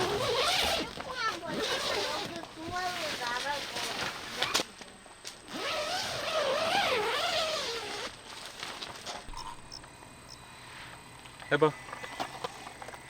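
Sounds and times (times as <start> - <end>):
outdoor background: 0.0 - 13.0.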